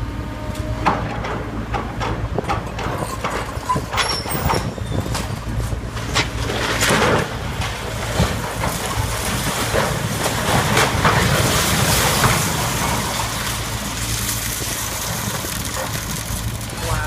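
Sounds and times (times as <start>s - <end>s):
excavator engine drone: 0.0s - 17.0s
crunching and cracking rubble: 1.2s - 17.0s.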